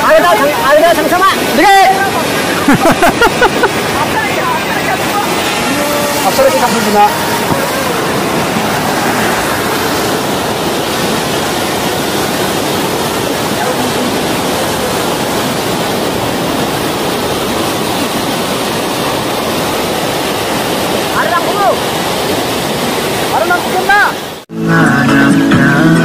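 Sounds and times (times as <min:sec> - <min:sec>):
river water rushing: 0:00.0 - 0:24.5.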